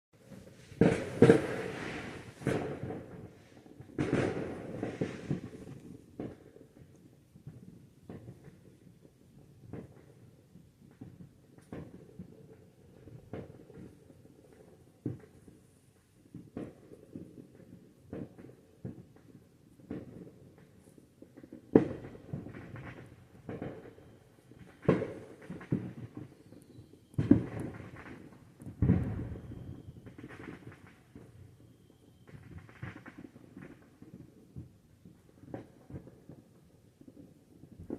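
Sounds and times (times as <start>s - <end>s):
fireworks bangs and pops: 0.2s - 37.9s.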